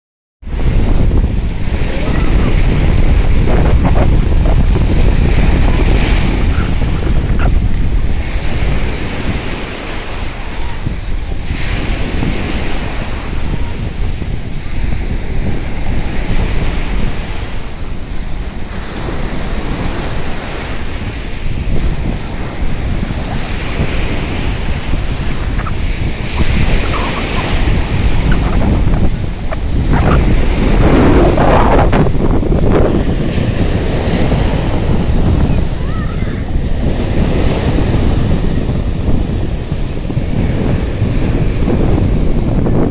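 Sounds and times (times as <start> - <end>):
surf breaking on beach: 0.4 - 42.9
wind buffeting microphone: 0.4 - 42.9.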